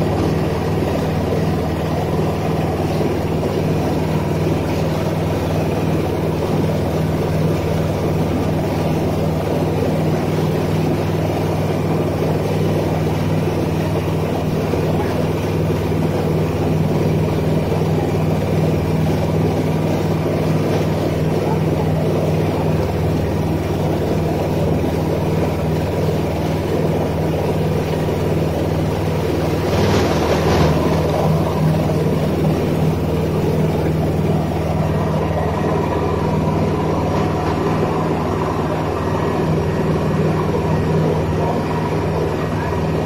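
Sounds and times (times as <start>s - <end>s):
boat engine running: 0.0s - 43.0s
water rushing in wake: 0.0s - 43.0s.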